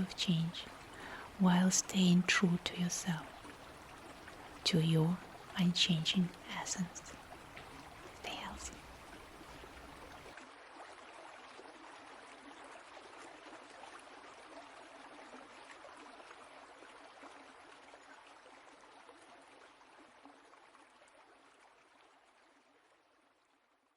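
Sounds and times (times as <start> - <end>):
stream flowing: 0.0 - 23.7.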